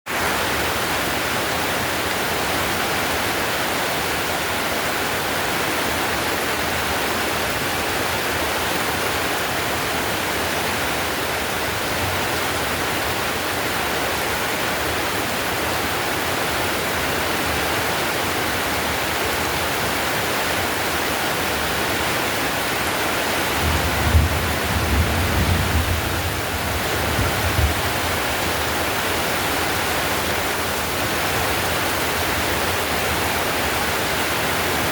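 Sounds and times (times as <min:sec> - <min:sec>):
heavy rain on roof tiles: 0:00.1 - 0:34.9.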